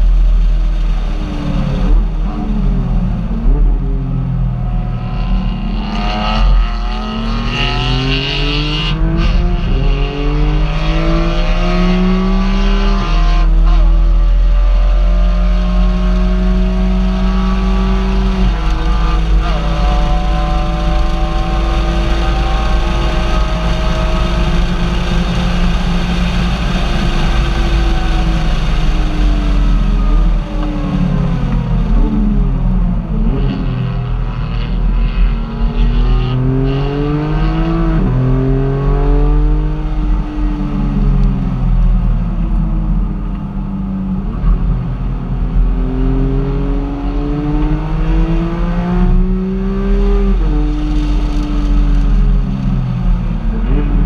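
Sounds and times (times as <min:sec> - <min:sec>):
car engine accelerating: 0:00.0 - 0:54.0
low road rumble: 0:00.0 - 0:54.0.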